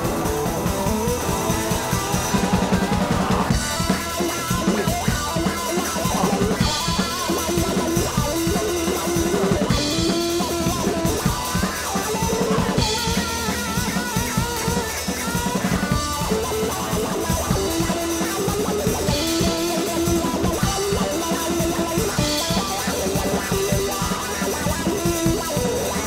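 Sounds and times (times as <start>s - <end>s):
music with drums and guitar: 0.0s - 26.0s.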